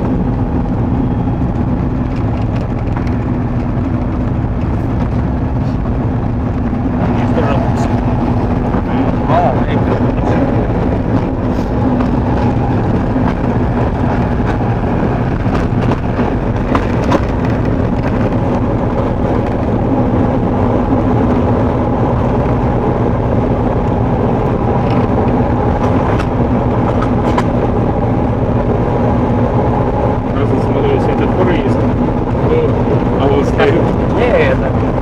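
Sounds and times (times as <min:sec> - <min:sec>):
diesel locomotive engine running: 0:00.0 - 0:35.0.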